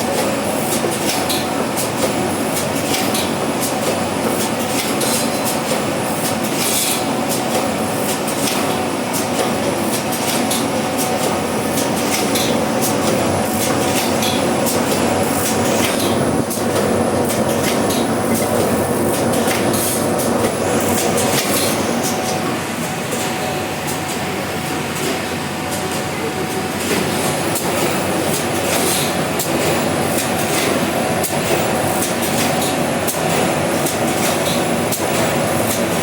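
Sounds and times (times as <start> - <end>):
printing machine clattering: 0.0 - 36.0.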